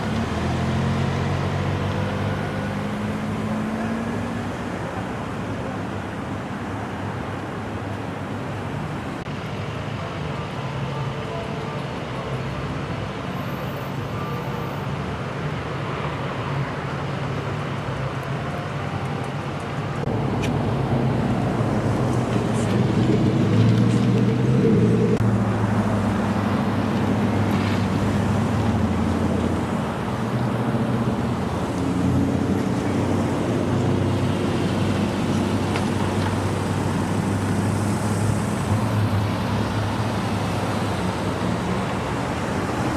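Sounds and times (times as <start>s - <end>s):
road traffic: 0.0s - 42.9s.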